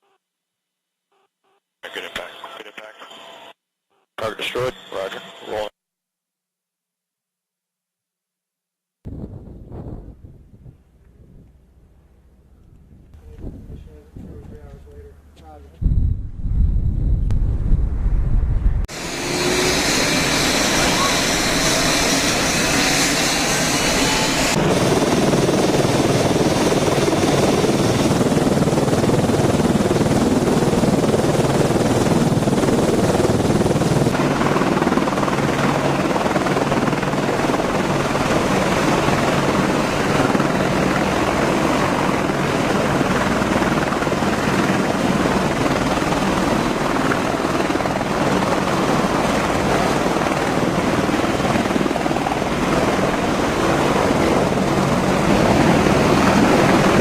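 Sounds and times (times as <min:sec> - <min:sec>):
helicopter rotor and turbine: 0:04.2 - 0:05.7, 0:12.7 - 0:57.0.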